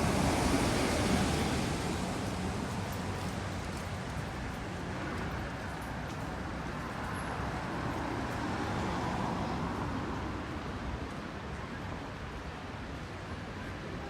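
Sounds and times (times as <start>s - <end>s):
road vehicles passing: 0.0s - 14.0s.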